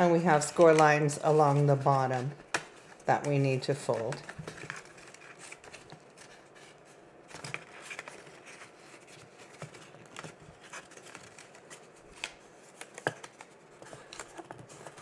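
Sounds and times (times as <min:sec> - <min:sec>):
cardstock rustling and crackling: 0:00.0 - 0:15.0.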